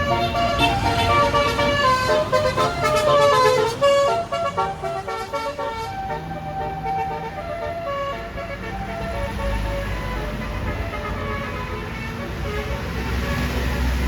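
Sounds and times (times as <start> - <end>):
multi-tone air horn melody: 0.0 - 13.7
bus engine running: 0.0 - 14.0.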